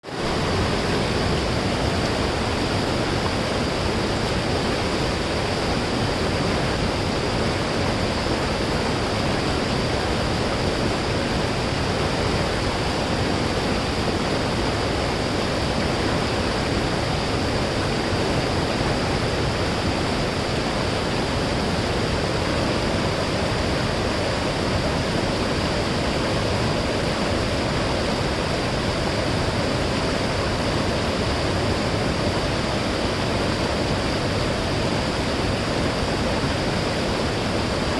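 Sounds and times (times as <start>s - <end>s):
stream rushing over rocks: 0.0s - 37.9s.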